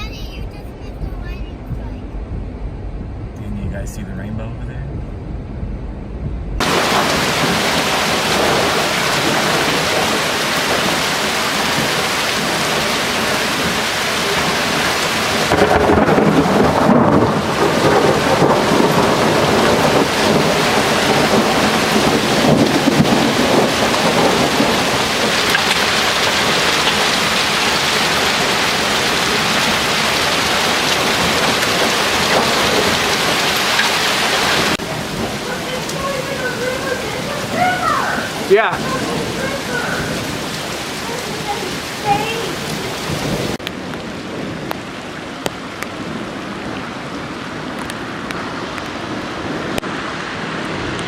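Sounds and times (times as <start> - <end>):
hail and rain pelting down: 6.6 - 51.0.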